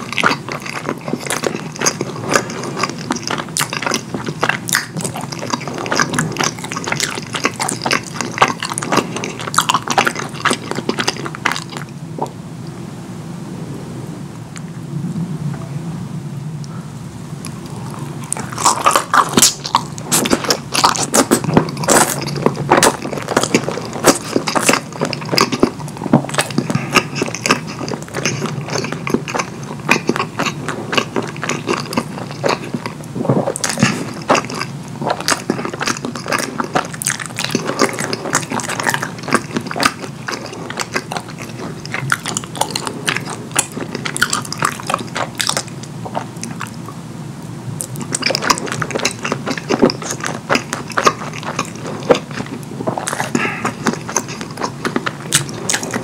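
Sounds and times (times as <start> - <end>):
person chewing food: 0.0 - 12.4, 17.4 - 47.0, 47.8 - 56.0.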